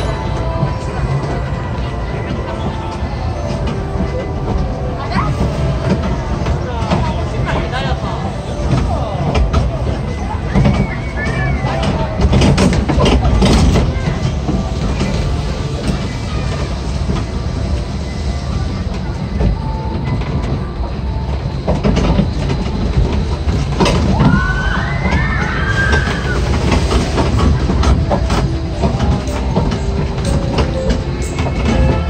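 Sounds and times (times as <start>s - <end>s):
small train rumbling on track: 0.0s - 32.0s
train wheels clacking: 0.0s - 32.0s.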